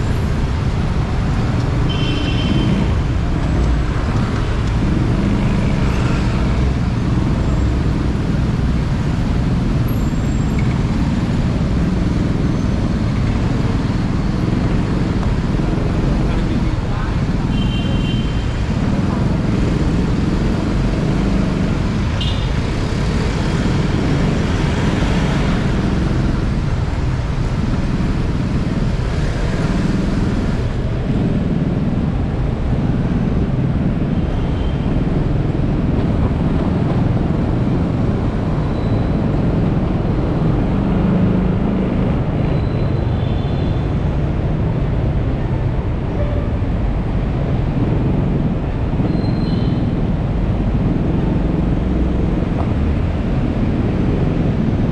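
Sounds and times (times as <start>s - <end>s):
city traffic: 0.0s - 54.9s.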